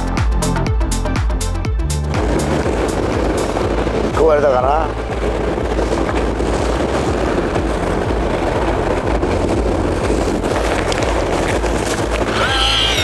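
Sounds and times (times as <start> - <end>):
heavy low rumble: 0.0 - 13.0
music: 0.0 - 13.0
wind buffeting microphone: 0.0 - 13.0
wind and sea noise: 1.4 - 13.0.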